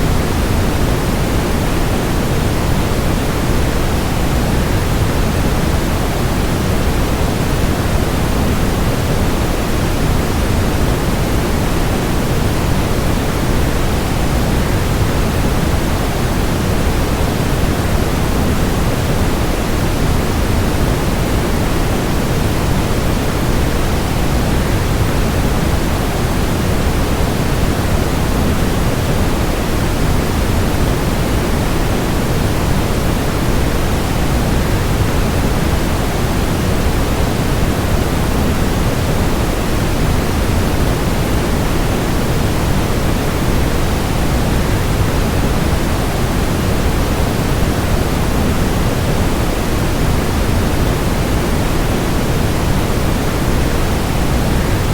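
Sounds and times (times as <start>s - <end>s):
white noise: 0.0s - 54.9s.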